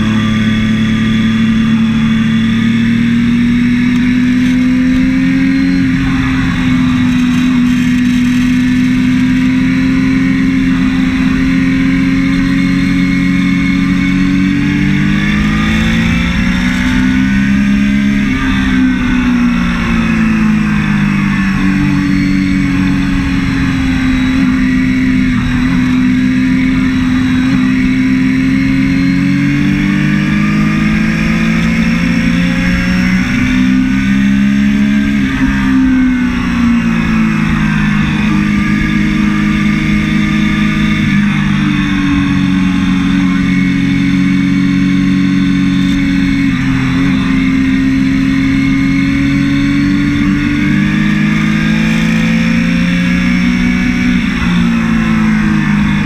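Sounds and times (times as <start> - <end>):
motorcycle engine at speed: 0.0 - 56.0
rushing wind: 0.0 - 56.0.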